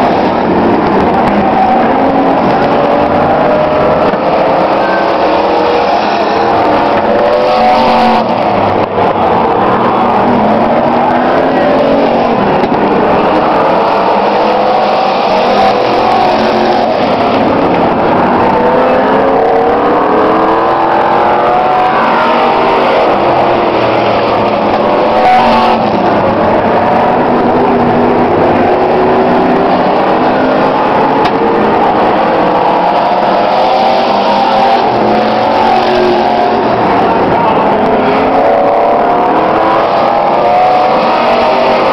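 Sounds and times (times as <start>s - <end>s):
racing truck engines: 0.0s - 41.9s.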